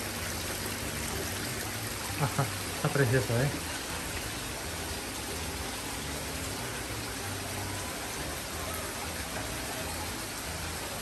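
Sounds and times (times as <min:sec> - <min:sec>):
waterfall splashing into pond: 0:00.0 - 0:11.0.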